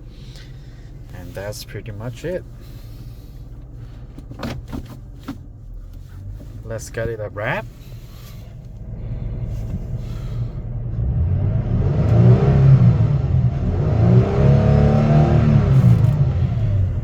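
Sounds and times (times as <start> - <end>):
truck engine idling and revving: 0.0 - 17.0.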